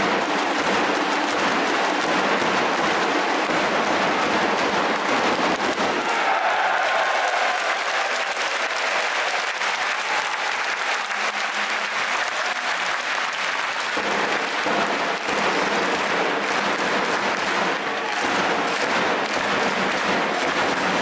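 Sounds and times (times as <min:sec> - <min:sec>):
crowd clapping: 0:00.0 - 0:21.0
low crowd din: 0:00.0 - 0:21.0.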